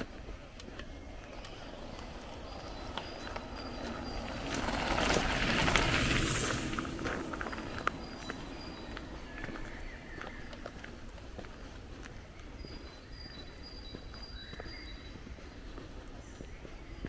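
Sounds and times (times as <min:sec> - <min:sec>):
bike tyres crunching on gravel: 0:00.0 - 0:17.0
footsteps on gravel: 0:00.0 - 0:17.0.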